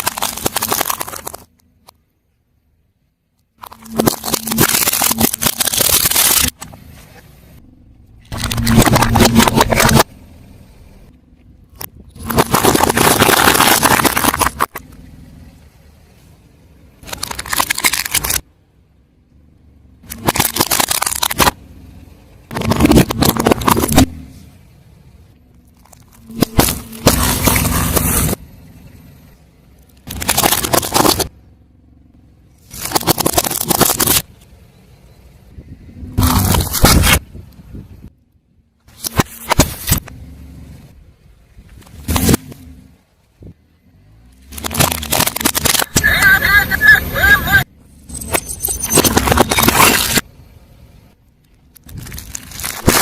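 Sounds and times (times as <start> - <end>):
car tyre crushing objects: 0.0 - 2.3, 3.3 - 53.0.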